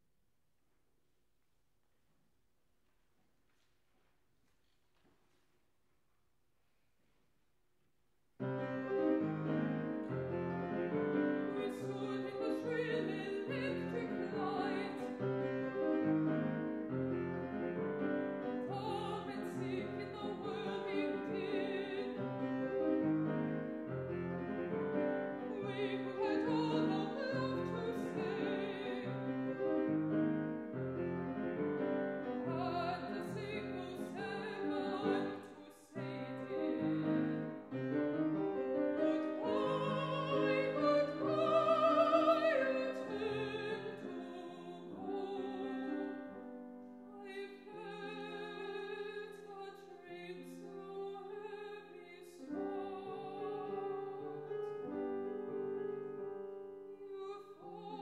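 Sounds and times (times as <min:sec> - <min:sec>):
grand piano accompaniment: 0:08.4 - 0:58.0
woman singing classical song: 0:08.5 - 0:58.0.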